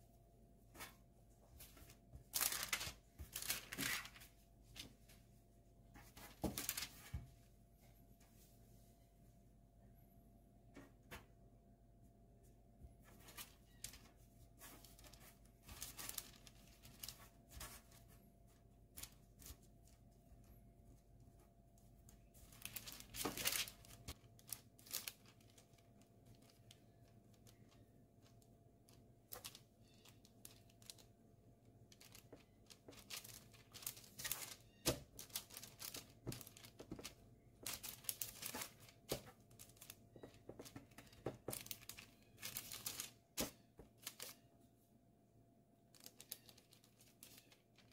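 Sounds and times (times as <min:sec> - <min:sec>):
baking parchment rustling: 0:00.6 - 0:07.3, 0:12.8 - 0:44.4, 0:45.9 - 0:47.9.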